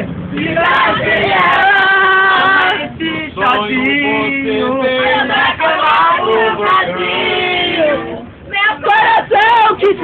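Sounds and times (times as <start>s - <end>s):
men and women singing: 0.0s - 10.0s.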